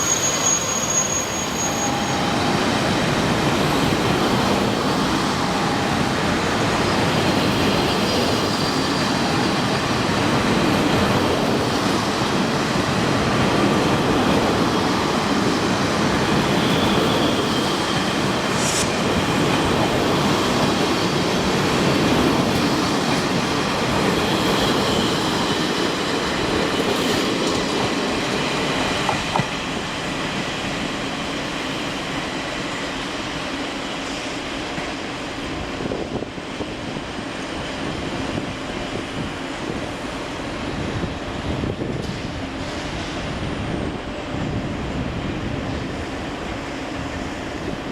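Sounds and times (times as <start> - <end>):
train wheels on rail: 0.0 - 47.9.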